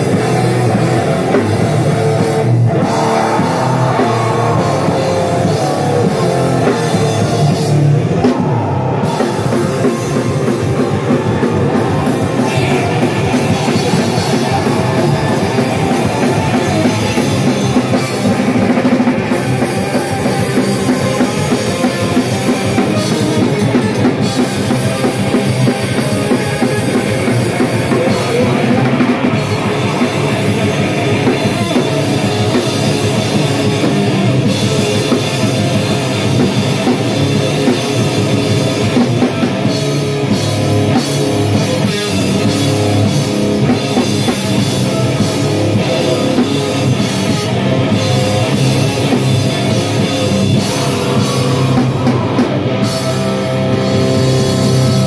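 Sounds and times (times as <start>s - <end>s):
distorted electric guitar: 0.0s - 55.0s
drum kit with cymbals: 0.0s - 55.0s.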